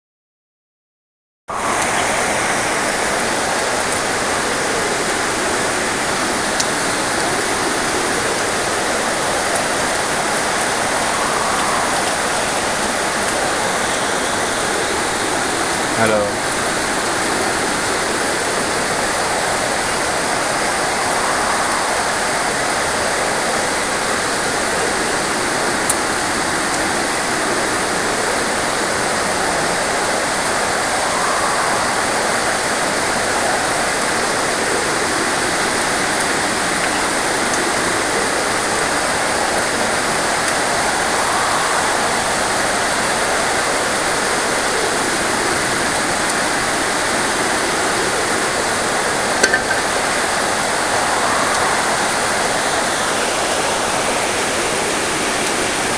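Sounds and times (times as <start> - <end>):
heavy rain pouring: 1.5 - 55.9
wind through trees: 1.5 - 55.9.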